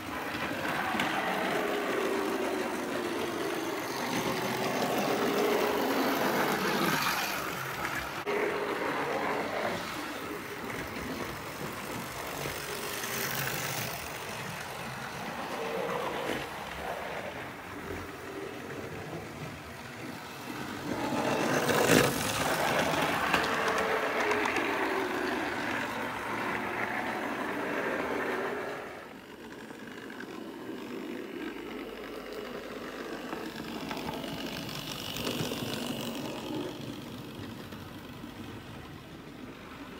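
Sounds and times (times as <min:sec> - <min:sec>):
model train rattle and hum: 0:00.0 - 0:39.9.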